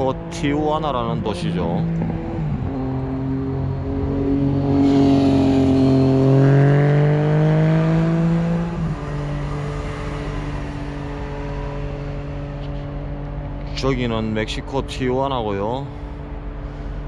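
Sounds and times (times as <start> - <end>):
vehicle engine accelerating: 0.0 - 14.7.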